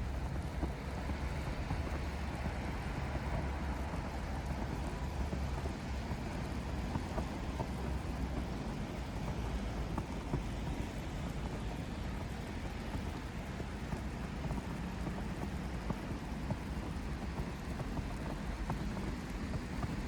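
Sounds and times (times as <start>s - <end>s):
low city rumble: 0.0s - 20.0s.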